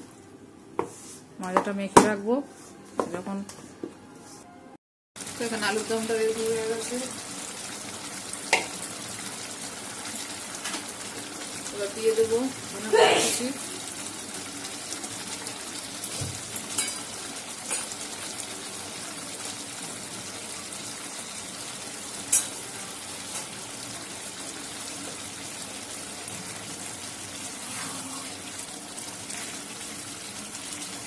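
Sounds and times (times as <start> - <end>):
curry sizzling in a pan: 5.2 - 31.0.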